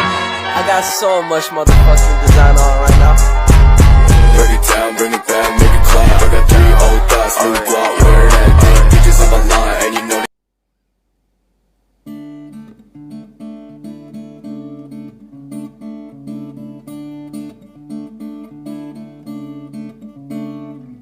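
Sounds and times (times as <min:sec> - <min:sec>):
acoustic guitar strumming: 0:00.0 - 0:10.3, 0:12.0 - 0:21.0.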